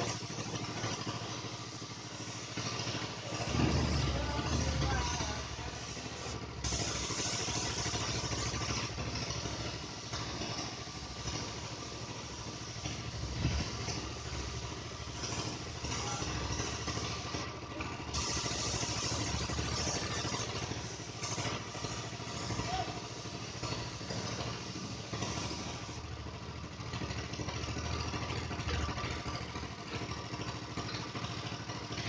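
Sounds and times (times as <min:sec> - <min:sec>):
hiss: 0:00.0 - 0:32.0
motor running steadily: 0:00.0 - 0:32.0.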